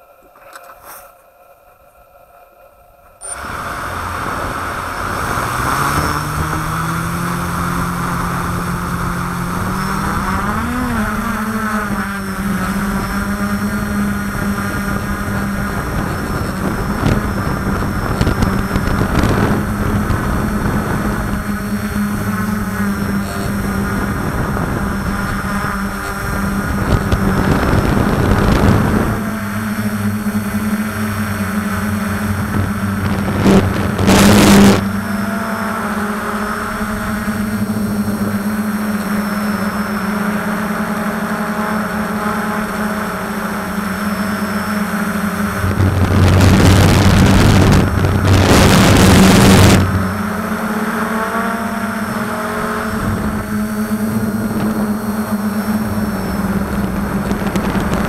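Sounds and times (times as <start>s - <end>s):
drone propellers buzzing: 2.1s - 58.0s
wind noise rush: 3.2s - 38.8s, 45.0s - 50.4s, 51.9s - 58.0s.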